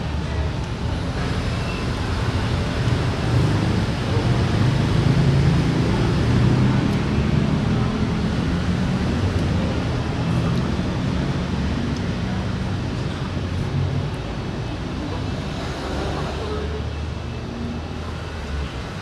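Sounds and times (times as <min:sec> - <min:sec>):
road noise rush: 0:00.0 - 0:19.0.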